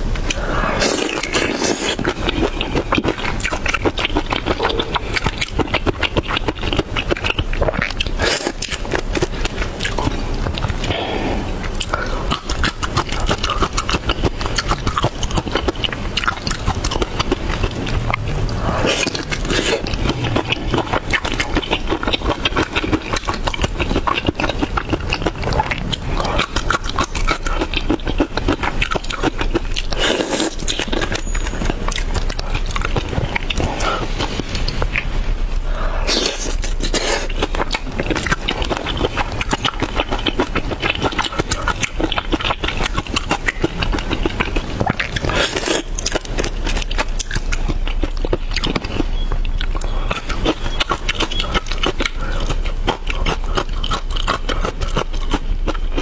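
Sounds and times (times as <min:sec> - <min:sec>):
chewing: 0:00.0 - 0:56.0
mouth clicks and smacks: 0:00.2 - 0:56.0.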